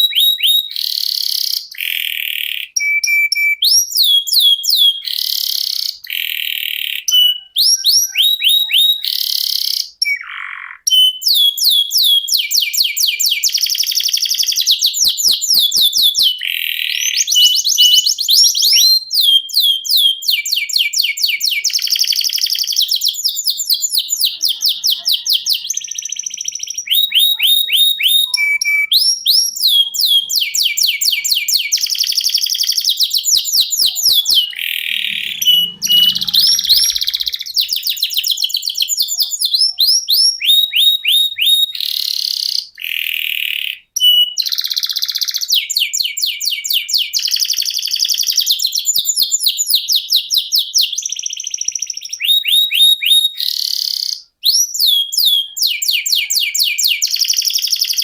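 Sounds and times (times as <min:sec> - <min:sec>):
canary singing trills: 0:00.0 - 0:49.7.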